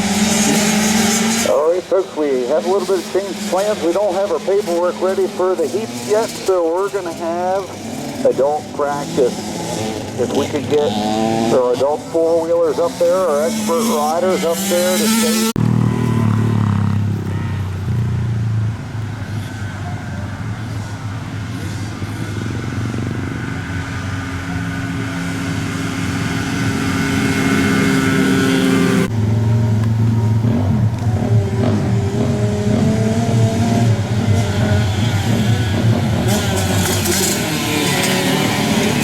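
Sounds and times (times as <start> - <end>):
small racing engines revving: 0.0 - 18.4, 19.2 - 39.0.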